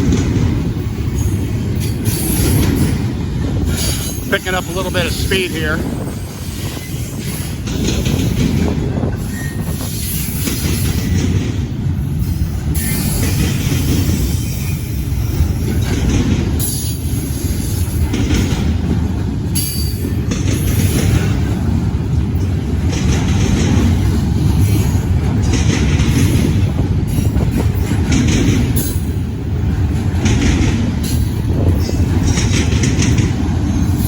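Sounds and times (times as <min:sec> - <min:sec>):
freight train wheels rumbling: 0:00.0 - 0:34.0.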